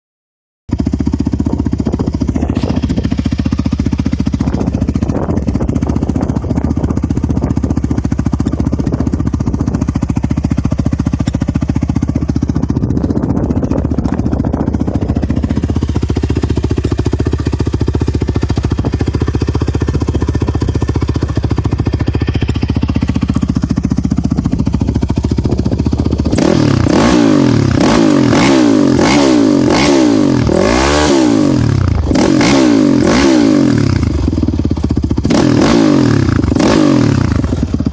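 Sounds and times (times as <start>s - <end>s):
atv engine idling and revving: 0.7s - 37.9s.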